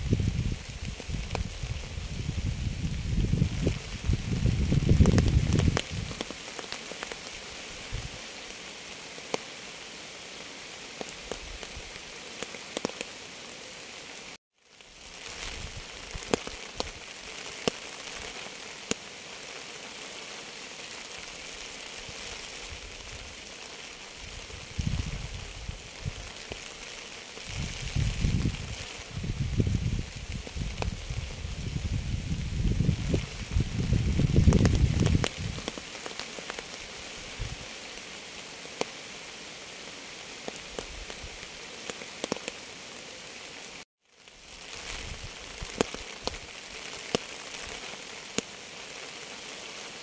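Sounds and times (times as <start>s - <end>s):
raindrops ticking on surface: 0.0s - 14.0s, 14.6s - 50.0s
steady rain: 0.0s - 50.0s.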